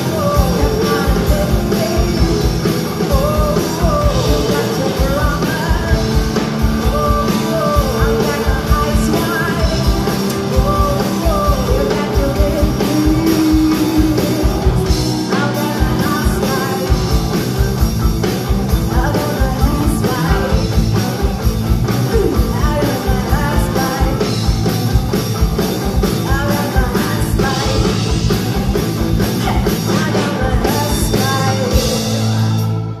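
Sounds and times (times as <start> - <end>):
woman singing: 0.0 - 17.4, 18.7 - 20.9, 22.0 - 24.6, 26.2 - 28.3, 29.2 - 32.5
live rock band playing: 0.0 - 33.0.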